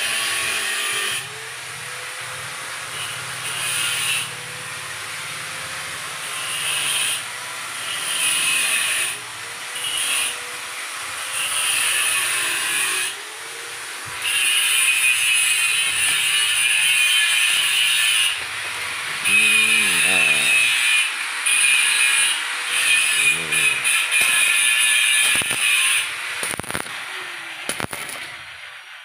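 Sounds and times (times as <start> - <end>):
angle grinder grinding metal: 0.0 - 26.9.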